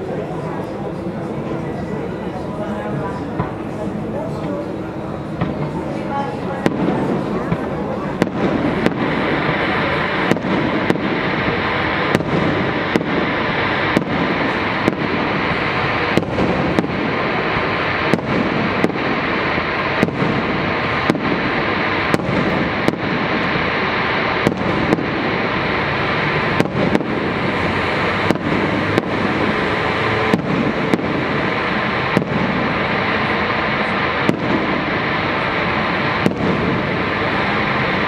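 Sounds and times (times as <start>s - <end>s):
fireworks bursting: 0.0s - 38.0s
sharp firework bangs: 5.3s - 38.0s.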